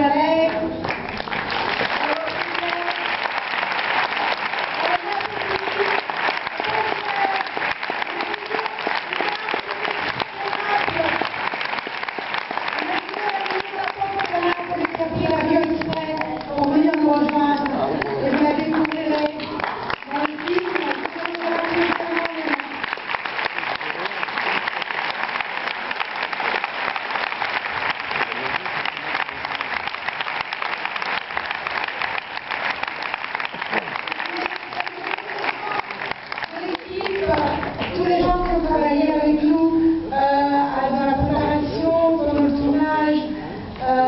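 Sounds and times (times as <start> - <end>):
crowd clapping: 0.4 - 39.2
audience applauding: 0.8 - 38.6.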